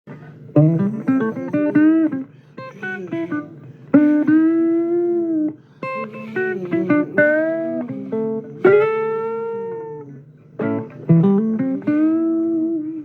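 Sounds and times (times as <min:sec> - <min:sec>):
blues guitar playing: 0:00.1 - 0:13.0.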